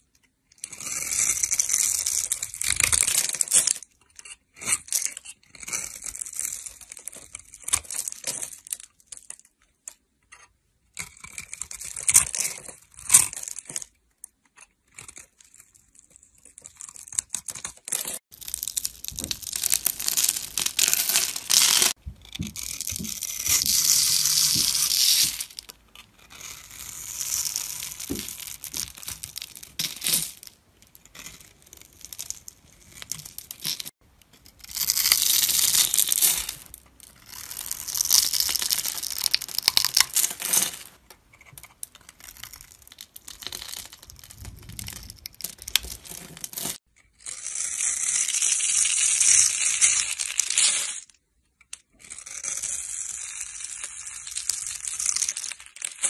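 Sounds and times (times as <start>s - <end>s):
knife crunching through soap: 0.6s - 9.4s, 10.9s - 13.9s, 14.8s - 48.2s.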